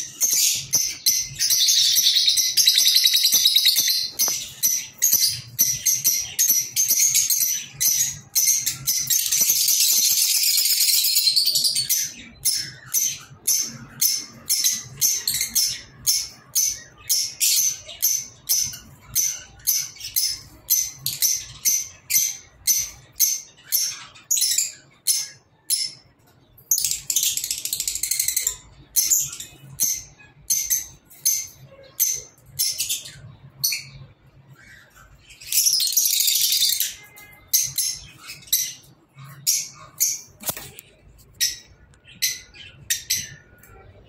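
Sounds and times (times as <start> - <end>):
lovebirds chattering: 0.0 - 44.0.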